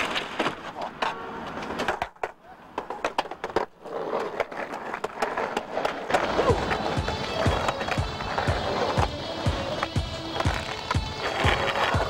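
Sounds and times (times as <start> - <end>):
skateboard clacking on pavement: 0.0 - 12.0
skateboard wheels rolling: 0.0 - 12.0.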